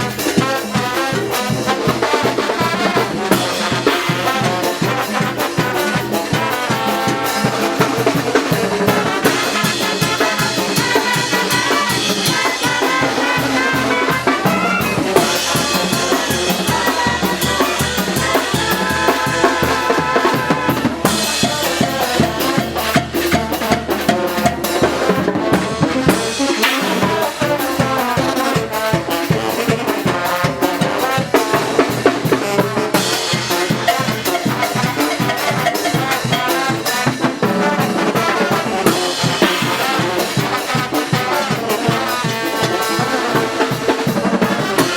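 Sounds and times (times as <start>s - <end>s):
brass instruments playing tune: 0.0s - 44.9s
drums and percussion beat: 0.0s - 44.9s.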